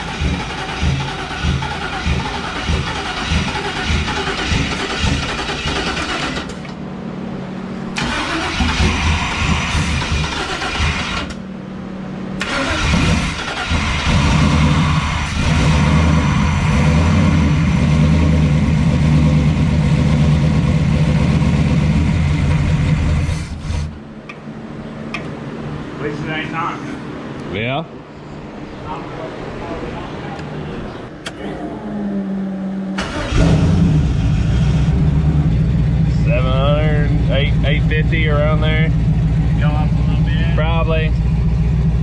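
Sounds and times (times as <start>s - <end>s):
car engine running: 0.0s - 25.6s, 31.2s - 42.0s.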